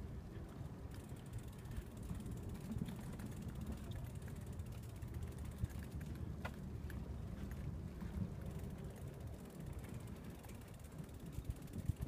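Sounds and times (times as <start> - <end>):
bicycle freewheel ticking: 0.6 - 12.0.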